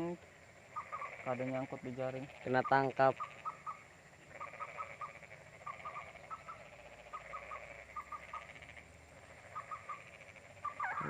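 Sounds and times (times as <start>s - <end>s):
frogs piping: 0.0s - 11.0s
insects chirring: 0.0s - 11.0s.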